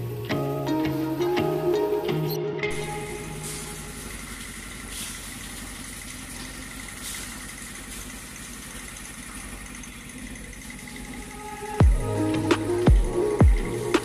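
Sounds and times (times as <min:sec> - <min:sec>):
motor running: 0:02.7 - 0:14.0.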